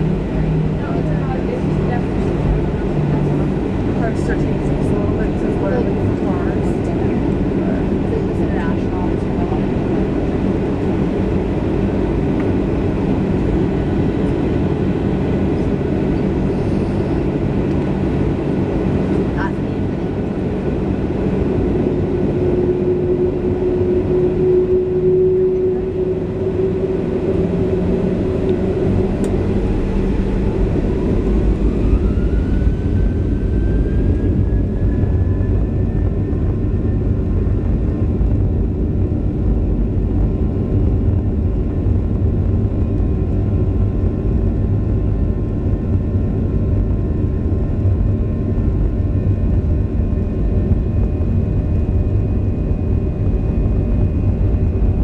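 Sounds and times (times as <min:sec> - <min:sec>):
aircraft cabin engine drone: 0:00.0 - 0:55.0
heavy engine rumble: 0:00.0 - 0:55.0
jet engine whine rising: 0:00.0 - 0:55.0.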